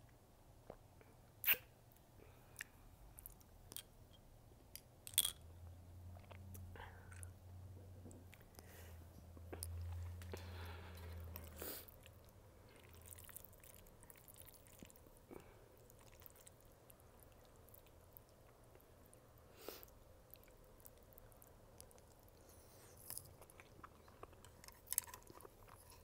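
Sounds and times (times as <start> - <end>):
chewing soft pasta: 1.4 - 3.9, 6.1 - 7.4, 8.1 - 26.0.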